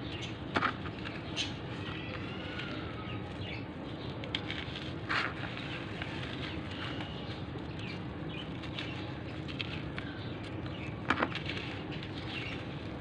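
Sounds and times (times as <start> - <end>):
birds chirping faintly: 0.0 - 13.0
gritty clumps crunching by hand: 0.5 - 13.0.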